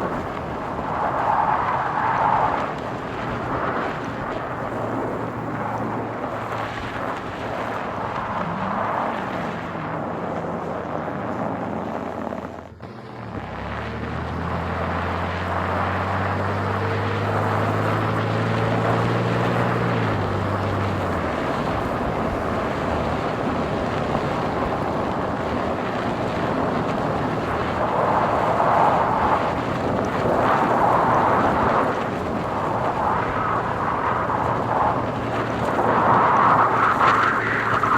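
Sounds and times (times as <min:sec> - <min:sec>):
low engine drone: 0:00.0 - 0:37.9
road and wind noise: 0:00.0 - 0:37.9.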